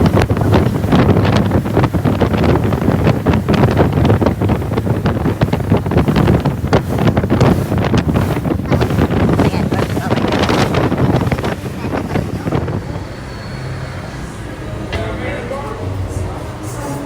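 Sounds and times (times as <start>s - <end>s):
wind buffeting microphone: 0.0s - 16.8s.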